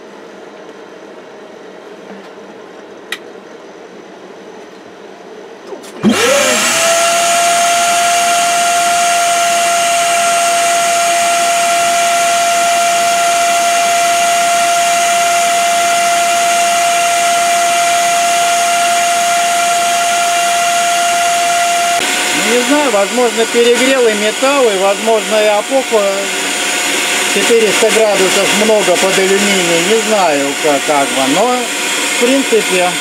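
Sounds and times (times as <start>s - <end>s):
vacuum cleaner motor whine: 5.9s - 33.0s.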